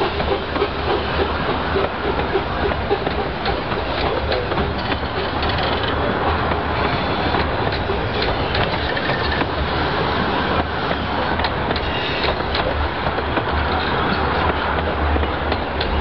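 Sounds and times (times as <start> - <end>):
miniature train rumbling: 0.0 - 16.0
wheels clicking over rail joints: 0.0 - 16.0.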